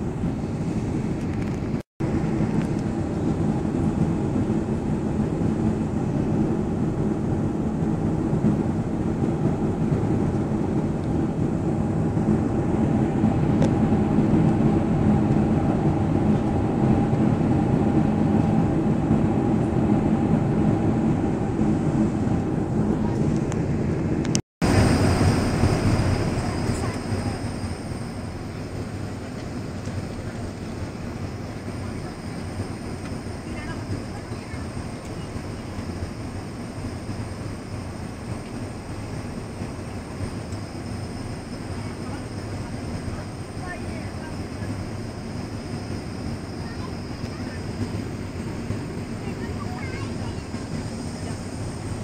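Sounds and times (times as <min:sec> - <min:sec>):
jet engine and airflow rumble: 0:00.0 - 0:52.0
low hum: 0:00.0 - 0:52.0.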